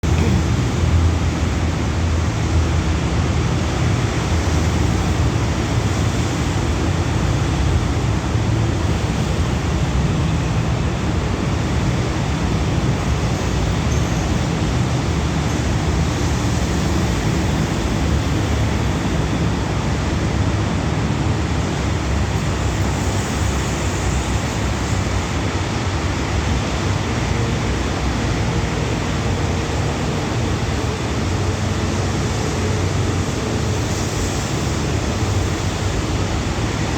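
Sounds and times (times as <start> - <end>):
diesel locomotive engine idling: 0.0 - 36.9.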